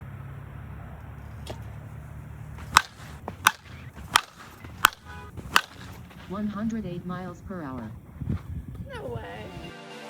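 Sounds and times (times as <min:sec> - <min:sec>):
bat striking ball: 0:00.6 - 0:09.7.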